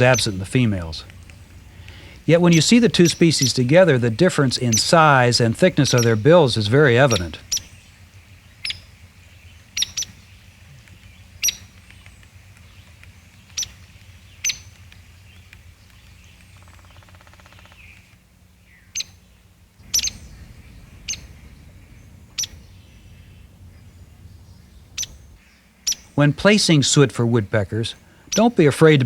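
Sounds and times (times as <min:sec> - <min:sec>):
woodpecker calling: 0:00.0 - 0:27.1, 0:27.7 - 0:29.0.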